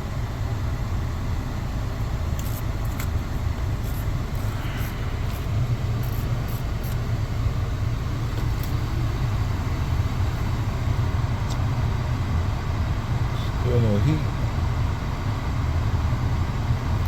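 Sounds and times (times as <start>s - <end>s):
car engine idling: 0.0s - 17.0s
heater blower air rush: 0.7s - 17.0s.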